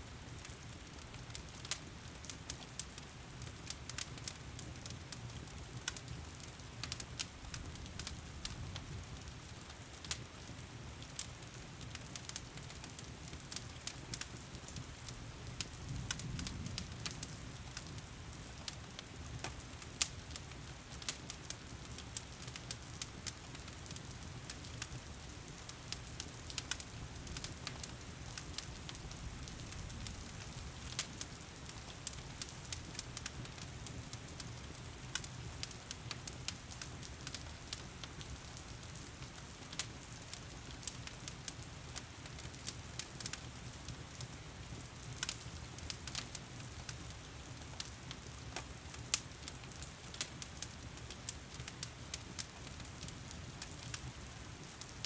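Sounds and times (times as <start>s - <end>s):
steady rain: 0.0s - 55.0s
wood fire crackling: 0.1s - 55.0s.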